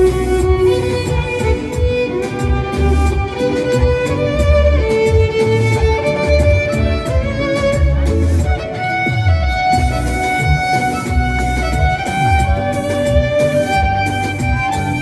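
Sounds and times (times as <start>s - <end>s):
backing track with pulsing bass: 0.0s - 15.0s
violin melody: 0.0s - 15.0s.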